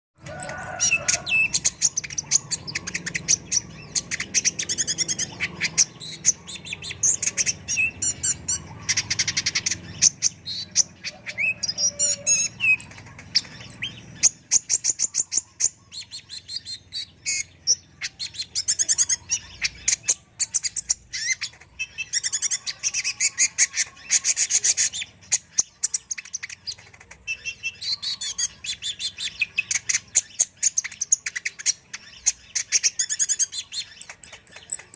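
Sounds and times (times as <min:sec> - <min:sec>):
sunbird singing: 0:00.2 - 0:34.9.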